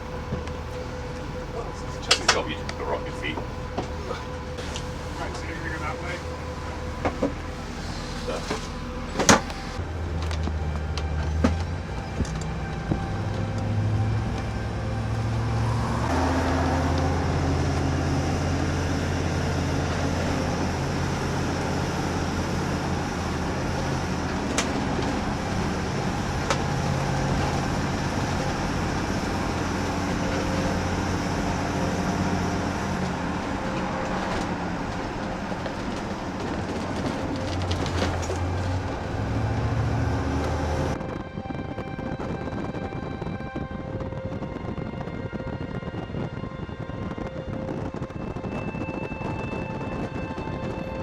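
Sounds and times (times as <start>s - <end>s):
vehicle engine: 0.0s - 41.0s
road noise: 0.0s - 51.0s.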